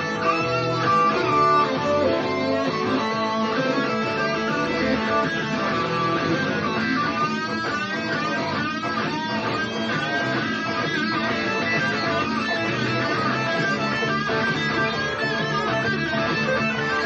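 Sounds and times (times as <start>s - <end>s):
blues backing track with bass: 0.0s - 17.0s
lead guitar playing blues: 0.0s - 17.0s.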